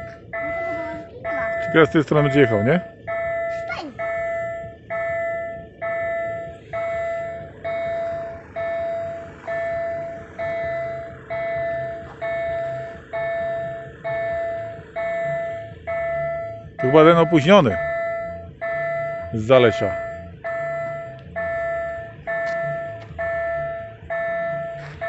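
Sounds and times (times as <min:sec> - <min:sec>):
level crossing electronic bell: 0:00.0 - 0:25.0.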